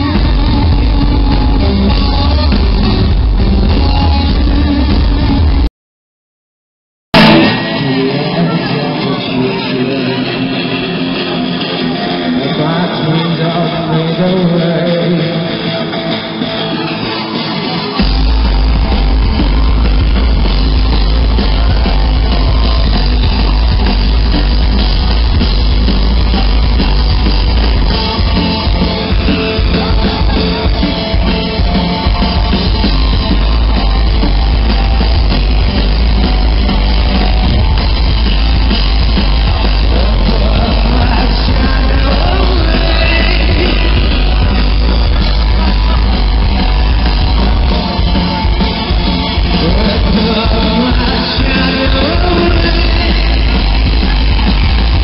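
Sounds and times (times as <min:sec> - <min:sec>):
loud distorted rock music: 0:00.0 - 0:05.7, 0:07.1 - 0:55.0.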